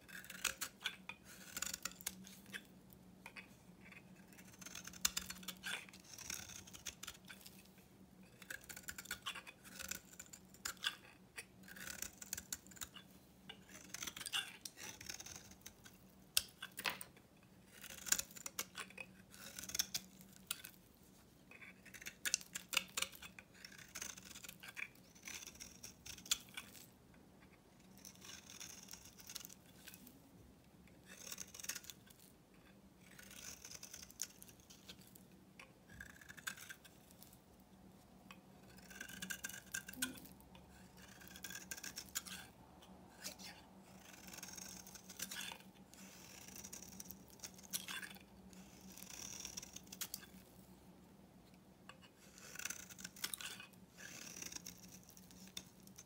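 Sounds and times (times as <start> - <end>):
knife scraping soap: 0.0 - 30.2, 30.8 - 37.4, 38.2 - 50.8, 51.4 - 56.0.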